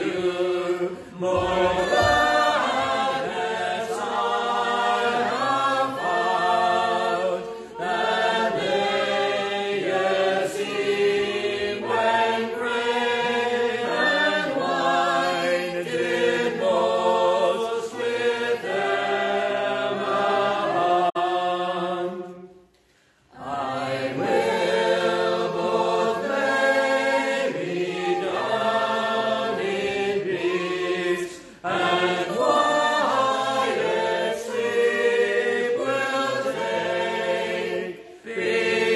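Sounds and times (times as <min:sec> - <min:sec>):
congregation singing unaccompanied: 0:00.0 - 0:38.9.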